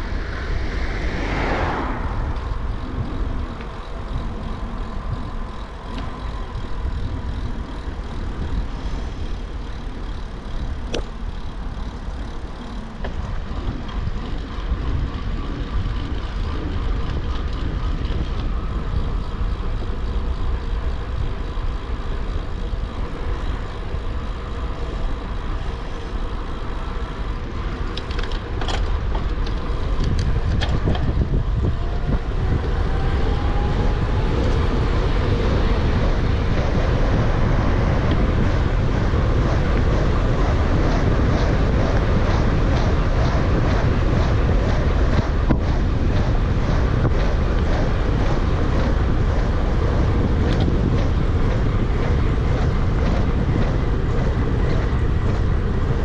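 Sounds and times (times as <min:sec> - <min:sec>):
bike tyre rumble on gravel: 0:00.0 - 0:56.0
wind rush on microphone: 0:00.0 - 0:56.0.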